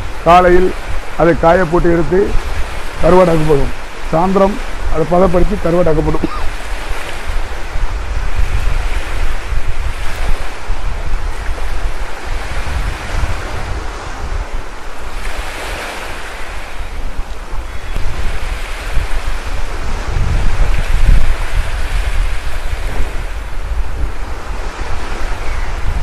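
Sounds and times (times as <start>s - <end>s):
wind blowing across microphone: 0.0s - 26.0s.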